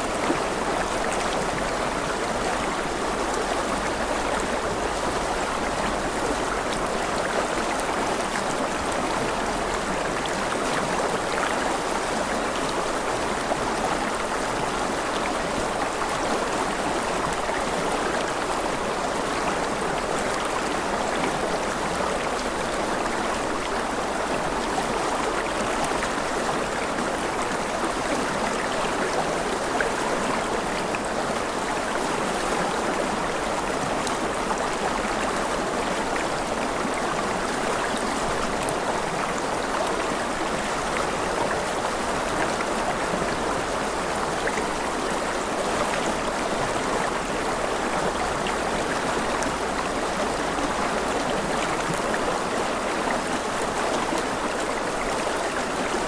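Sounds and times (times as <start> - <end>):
stream water rushing and babbling: 0.0 - 56.0.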